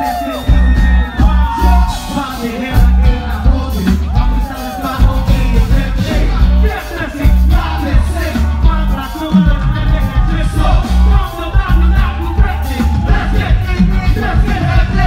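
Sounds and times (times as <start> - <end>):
hip-hop beat with heavy bass: 0.0 - 15.0
person rapping into a microphone: 0.2 - 15.0.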